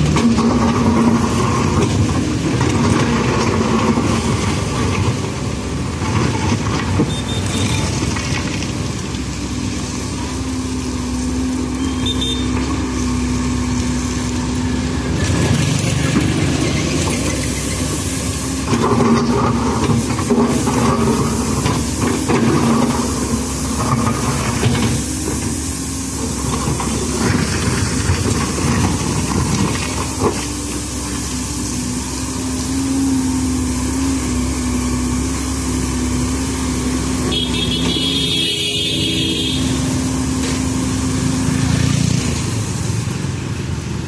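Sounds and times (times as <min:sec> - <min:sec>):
excavator diesel engine running: 0:00.0 - 0:44.0
road traffic noise: 0:00.0 - 0:44.0.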